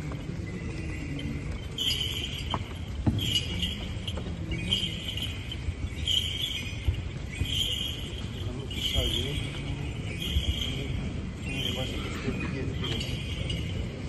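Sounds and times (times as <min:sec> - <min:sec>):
censer bells jingling: 0:00.0 - 0:14.0.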